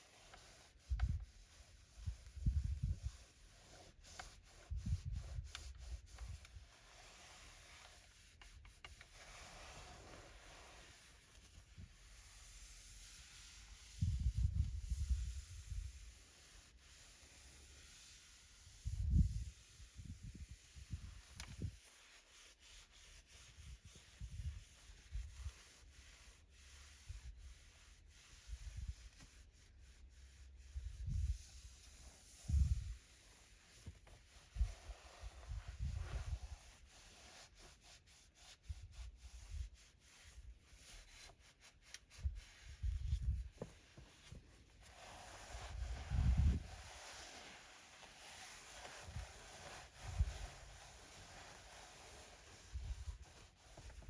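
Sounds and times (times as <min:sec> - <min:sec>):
cloth wiping surfaces: 0:00.0 - 0:54.0.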